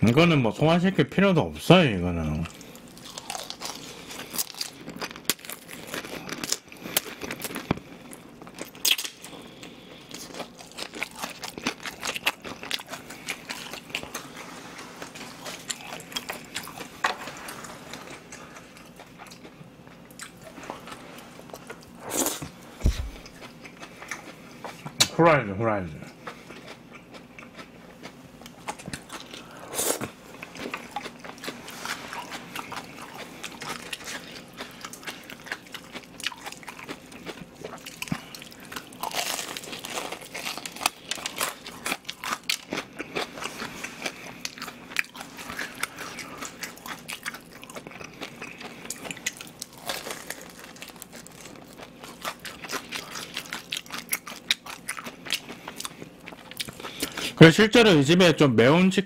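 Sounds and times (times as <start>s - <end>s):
crunching fried chicken: 2.2s - 25.3s, 26.1s - 57.4s.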